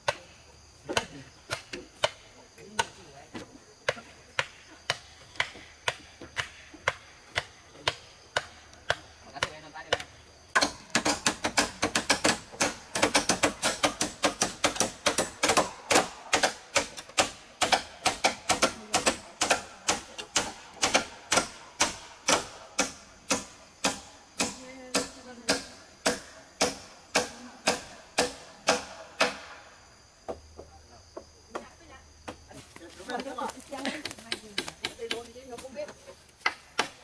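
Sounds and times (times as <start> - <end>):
hand tools striking wood: 0.9 - 32.4, 33.1 - 37.0.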